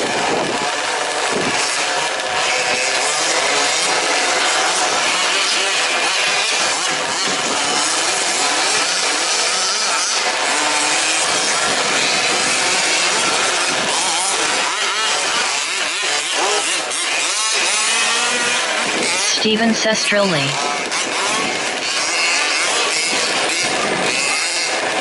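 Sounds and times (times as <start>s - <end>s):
small two-stroke engines revving: 0.0s - 19.4s, 20.6s - 25.0s.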